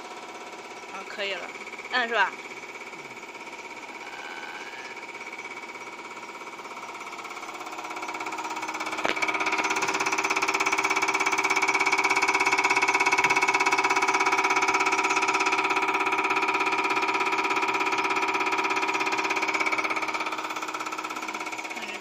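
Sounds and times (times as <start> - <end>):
machine whine with injector pulsing: 0.0 - 22.0.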